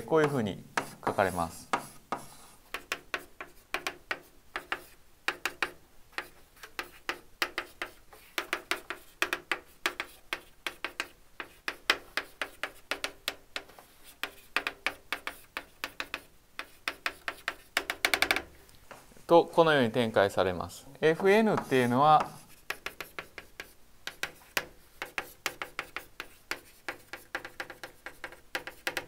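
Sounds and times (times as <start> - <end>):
chalk tapping and scraping on blackboard: 0.0 - 19.0, 21.1 - 29.0.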